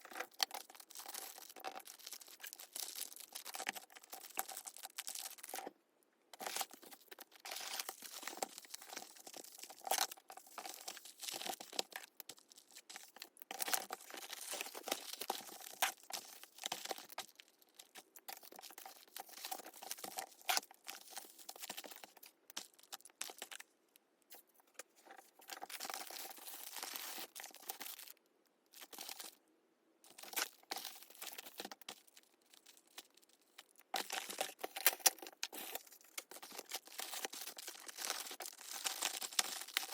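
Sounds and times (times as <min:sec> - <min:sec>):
plastic and paper crinkling: 0:00.0 - 0:05.7, 0:06.4 - 0:23.7, 0:24.3 - 0:29.4, 0:30.1 - 0:39.9.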